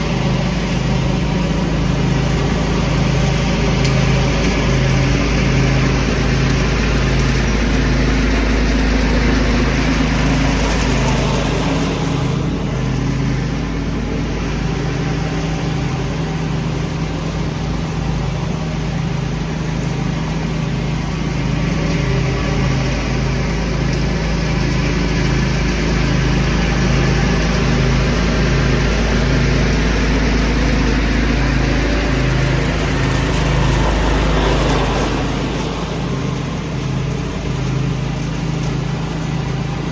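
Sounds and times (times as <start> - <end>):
leaf vacuum engine running: 0.0 - 39.9.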